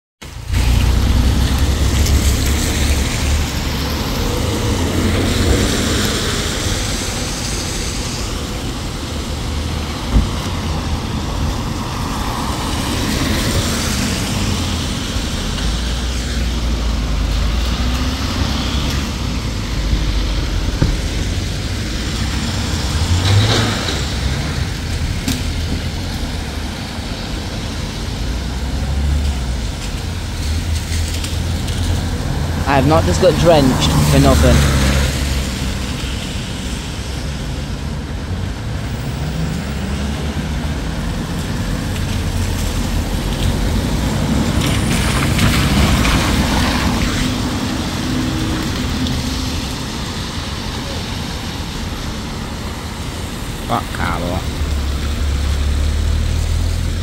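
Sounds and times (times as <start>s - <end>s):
traffic on wet road: 0.2s - 57.0s.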